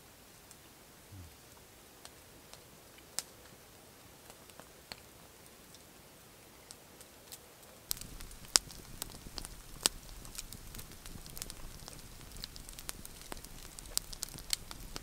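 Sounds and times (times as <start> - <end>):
faint hiss: 0.0 - 15.0
campfire crackling and popping: 0.4 - 15.0.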